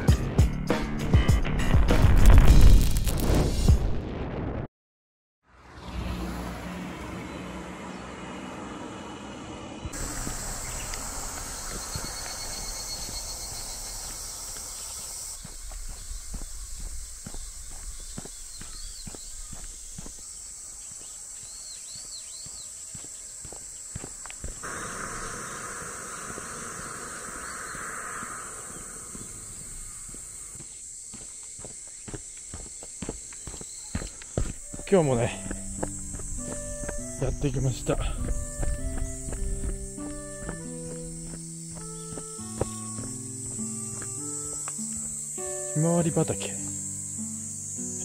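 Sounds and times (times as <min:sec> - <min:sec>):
high-pitched insect chorus: 0:09.0 - 0:48.0.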